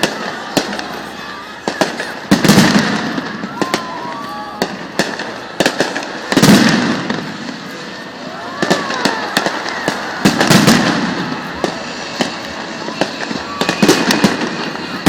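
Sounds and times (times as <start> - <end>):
fireworks booms: 0.0 - 15.0
fireworks crackling: 0.0 - 15.0.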